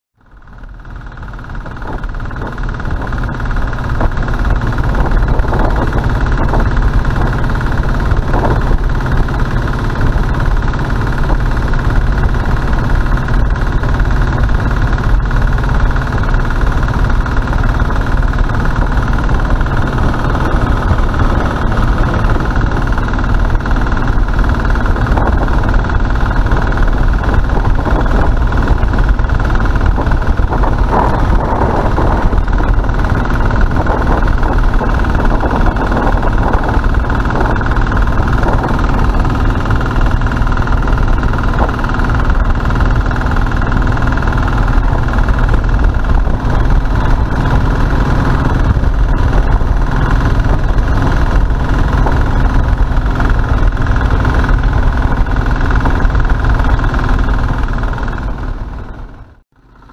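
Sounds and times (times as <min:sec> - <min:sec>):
motorcycle engine running: 0:00.2 - 0:59.9.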